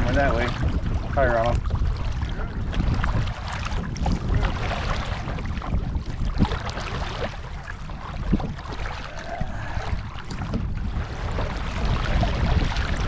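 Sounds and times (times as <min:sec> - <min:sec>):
paddle strokes in water: 0:00.0 - 0:13.0
wind on microphone: 0:00.0 - 0:13.0.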